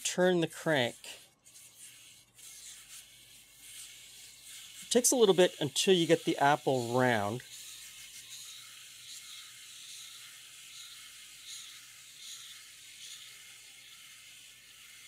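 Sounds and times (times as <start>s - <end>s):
blade shaving an apple: 0.0s - 15.0s.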